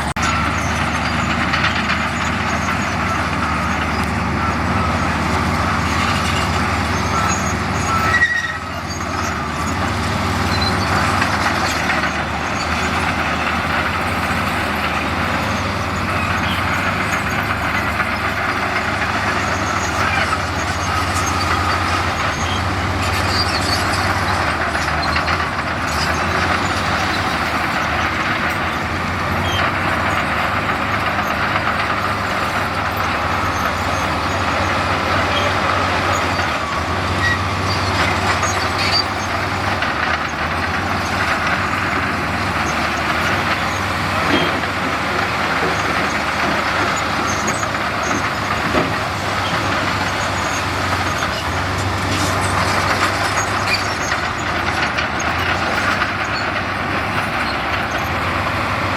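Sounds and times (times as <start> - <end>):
diesel construction machinery running: 0.0 - 58.9.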